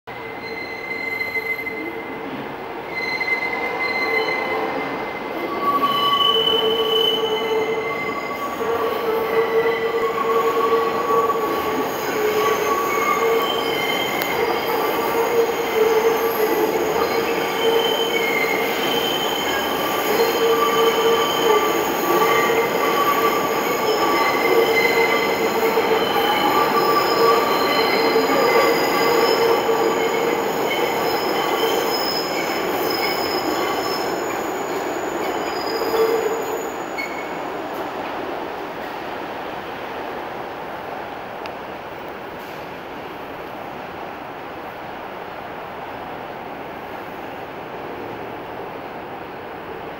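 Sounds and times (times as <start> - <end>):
subway wheels squealing on rails: 0.1 - 40.8, 42.3 - 43.4
subway cars rumbling: 0.1 - 49.9.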